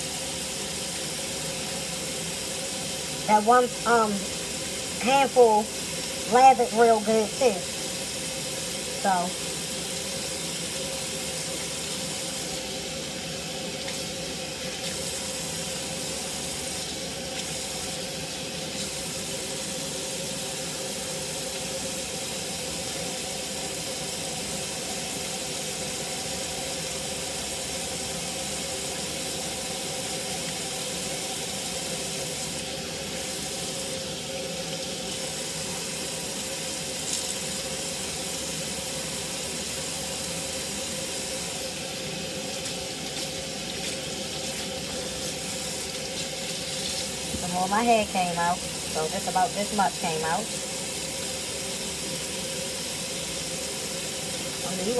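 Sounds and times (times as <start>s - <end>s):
faucet running into steel sink: 0.0s - 54.9s.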